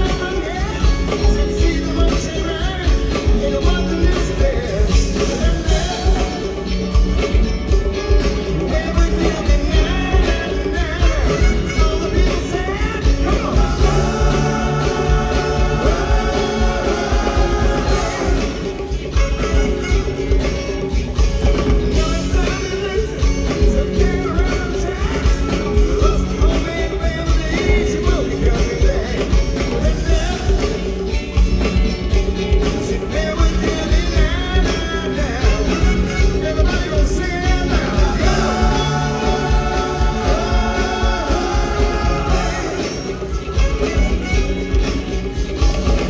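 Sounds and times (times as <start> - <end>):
live rock band: 0.0 - 46.0.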